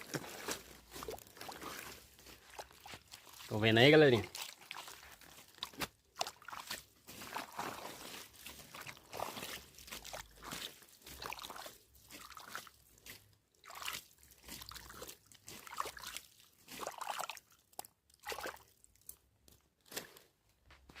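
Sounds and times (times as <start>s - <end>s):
wet leaves crunching underfoot: 0.0s - 20.3s
water trickling: 0.2s - 17.6s.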